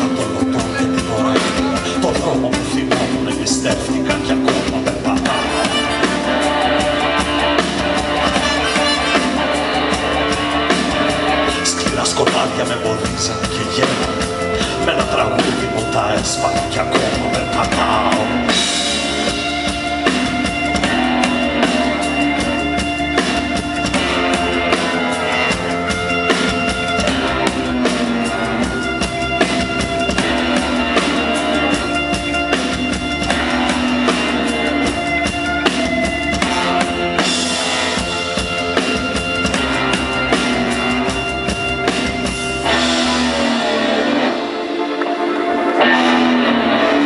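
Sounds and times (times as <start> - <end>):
drum kit: 0.0 - 47.0
rock band playing instrumental: 0.0 - 47.0.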